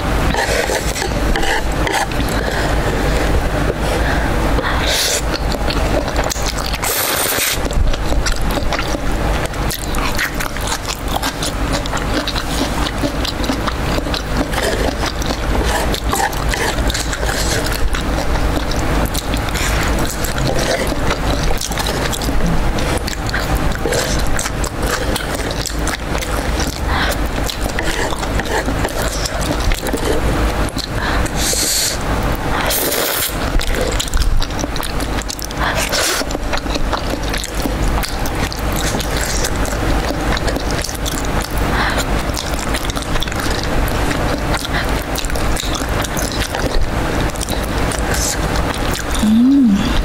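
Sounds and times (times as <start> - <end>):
noodles slurped and chewed: 0.0 - 50.0.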